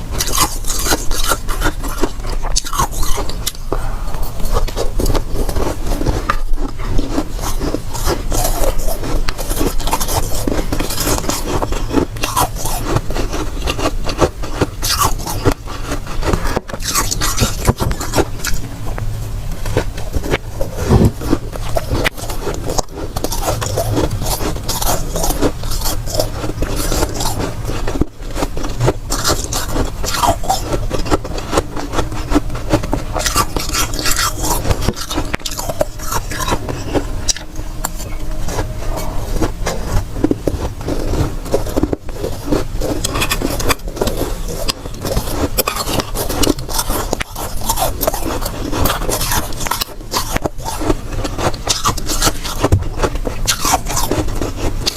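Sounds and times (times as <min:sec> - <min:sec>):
frost crunching when chewed: 0:00.0 - 0:54.9.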